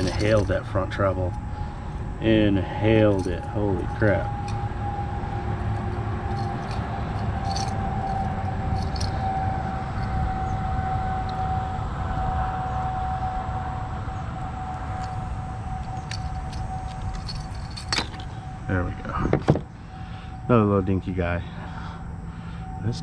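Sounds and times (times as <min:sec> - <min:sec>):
wind rumble on microphone: 0:00.0 - 0:20.3
constant high whine: 0:00.0 - 0:23.0.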